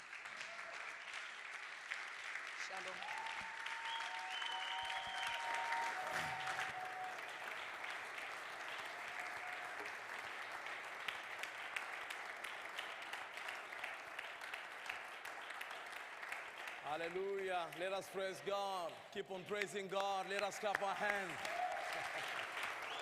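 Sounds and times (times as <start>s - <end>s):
congregation applauding: 0.0s - 23.0s.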